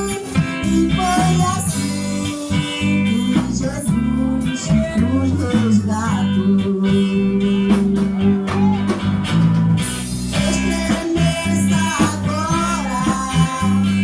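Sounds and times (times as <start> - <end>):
bass line: 0.0 - 14.0
church band playing a hymn: 0.0 - 14.0
electric guitar: 0.0 - 14.0.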